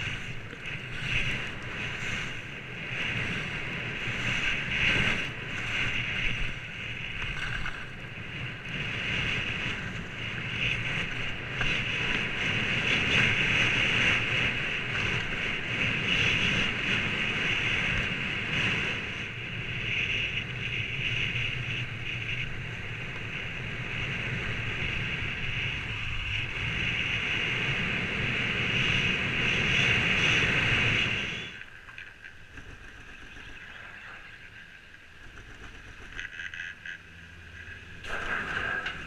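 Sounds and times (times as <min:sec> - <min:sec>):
skis running over packed snow: 0:00.0 - 0:36.8
wind rushing over microphone: 0:00.0 - 0:39.0.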